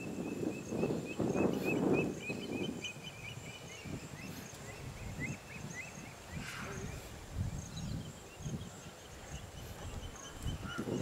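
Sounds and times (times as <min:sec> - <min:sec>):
bird chirping: 0:00.0 - 0:11.0
low muffled noise: 0:00.8 - 0:11.0.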